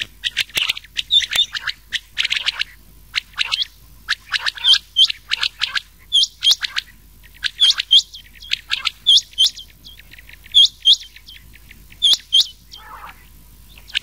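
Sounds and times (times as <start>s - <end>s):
quail whistled calls: 0.0s - 14.0s.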